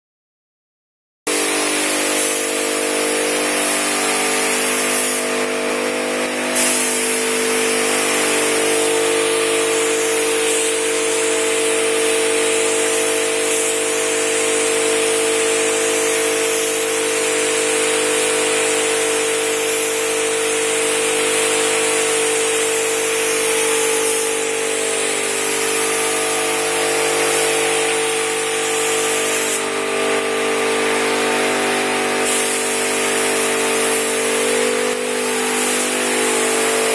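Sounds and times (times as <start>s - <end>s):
paint spray gun hissing: 1.3s - 36.9s.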